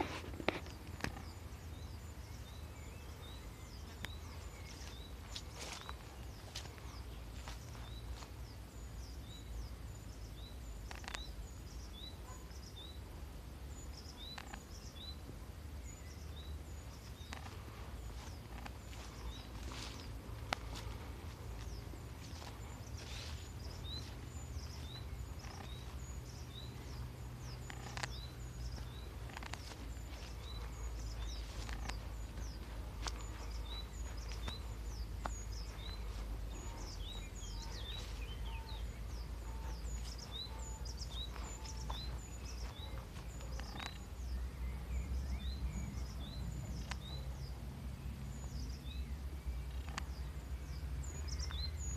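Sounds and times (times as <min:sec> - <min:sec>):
birds chirping: 0:00.0 - 0:51.9
low steady rumble: 0:00.0 - 0:51.9.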